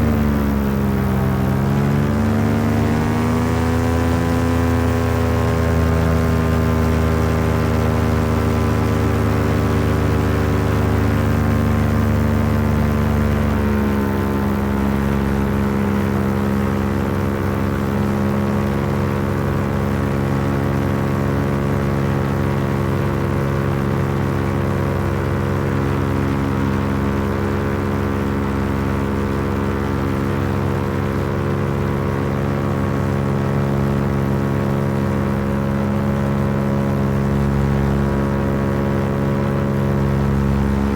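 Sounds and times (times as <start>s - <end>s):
paramotor engine and propeller: 0.0s - 40.9s.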